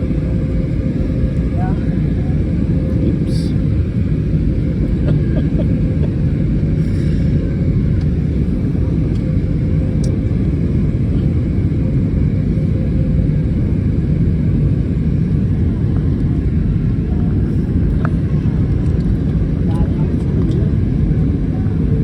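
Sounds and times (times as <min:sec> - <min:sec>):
low rumble of engines and airflow: 0:00.0 - 0:22.0.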